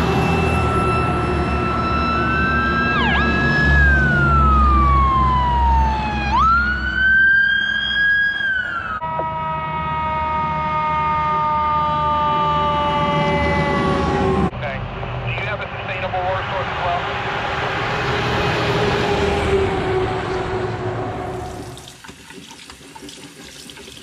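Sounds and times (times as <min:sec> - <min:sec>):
heavy truck engine rumbling: 0:00.0 - 0:21.8
fire truck siren wailing: 0:00.0 - 0:21.9.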